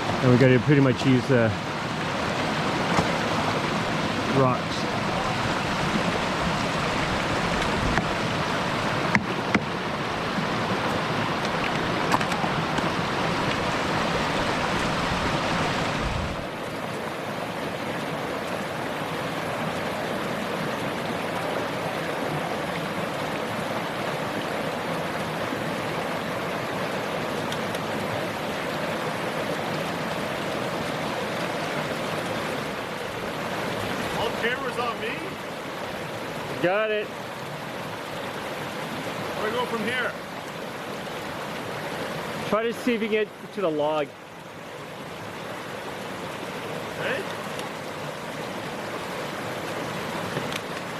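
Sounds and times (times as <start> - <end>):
brook rushing over rocks: 0.0 - 44.0, 45.3 - 50.9.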